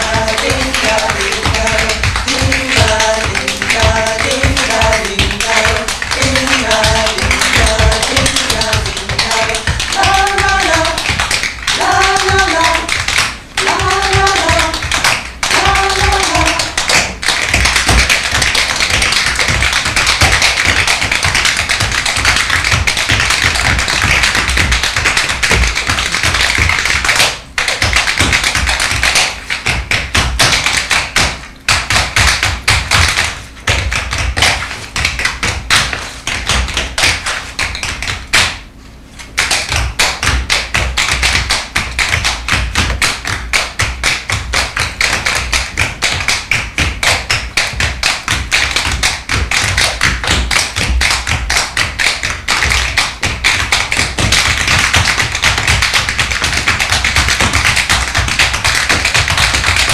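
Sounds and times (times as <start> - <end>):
tap shoes on wooden stage: 0.0 - 38.6, 39.2 - 59.9.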